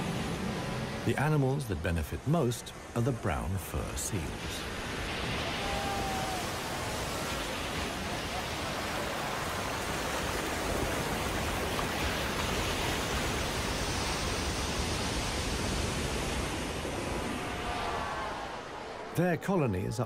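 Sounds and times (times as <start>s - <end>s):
surf breaking over rocks: 0.0s - 19.6s.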